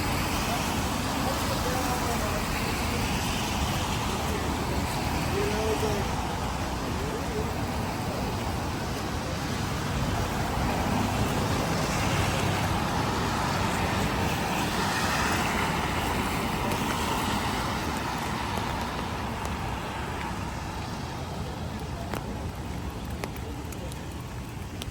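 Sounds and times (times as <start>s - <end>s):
tyre hiss on wet road: 0.0s - 23.4s
rain: 0.0s - 24.9s.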